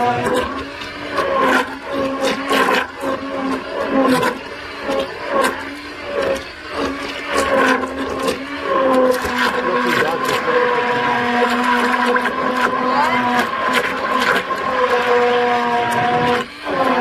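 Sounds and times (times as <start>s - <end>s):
stick blender motor hum: 0.0s - 17.0s.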